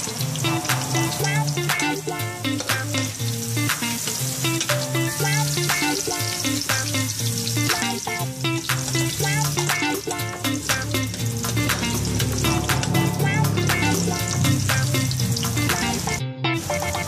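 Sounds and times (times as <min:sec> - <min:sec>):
background music with bass: 0:00.0 - 0:17.0
food sizzling in a pan: 0:00.0 - 0:17.0.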